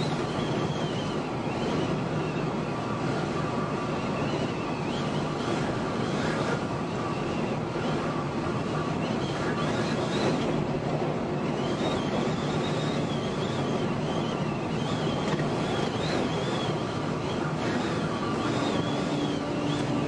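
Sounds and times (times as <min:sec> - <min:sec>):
road and wind noise in car: 0:00.0 - 0:20.0.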